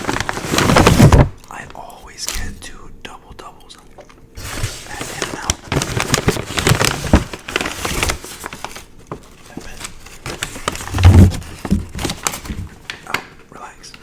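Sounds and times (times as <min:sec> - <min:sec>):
paper wrapping crinkling: 0:00.0 - 0:02.5, 0:04.4 - 0:14.0.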